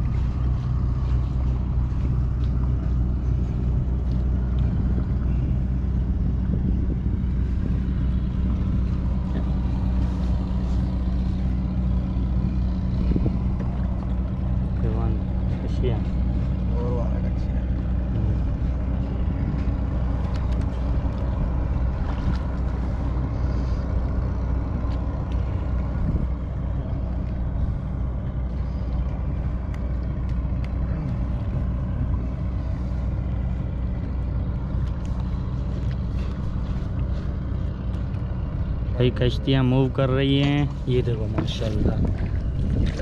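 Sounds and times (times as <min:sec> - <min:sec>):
boat engine humming: 0:00.0 - 0:43.0.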